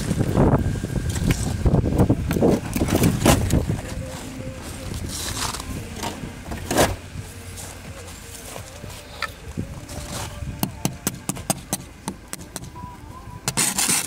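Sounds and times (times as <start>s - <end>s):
handling noise: 0.0s - 14.0s.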